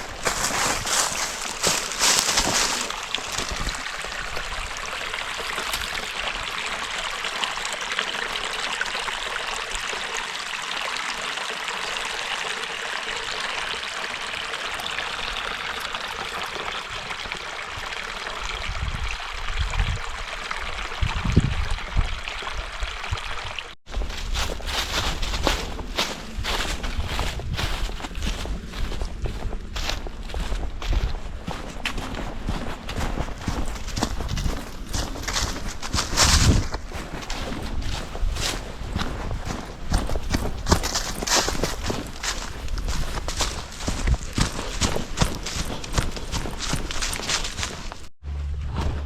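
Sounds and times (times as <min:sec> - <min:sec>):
water flowing: 0:00.0 - 0:48.1.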